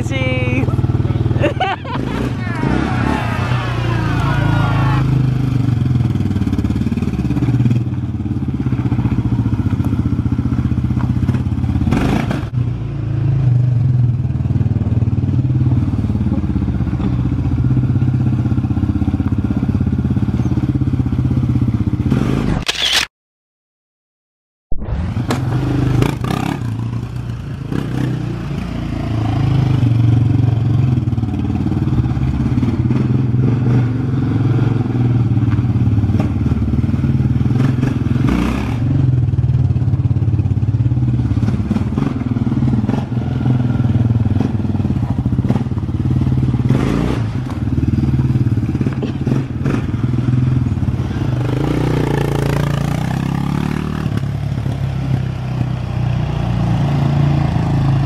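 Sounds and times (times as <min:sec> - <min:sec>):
quad bike engine revving: 0:00.0 - 0:23.0, 0:24.9 - 0:58.0.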